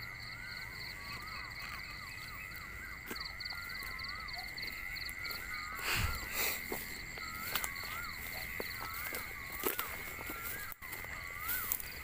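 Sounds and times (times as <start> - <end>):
insects buzzing and chirping: 0.0 - 12.0.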